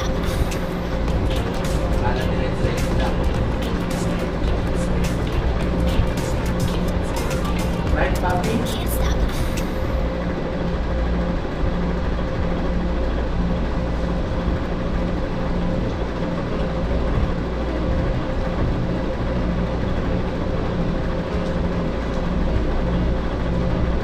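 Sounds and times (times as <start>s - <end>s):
air conditioning hum: 0.0s - 24.0s.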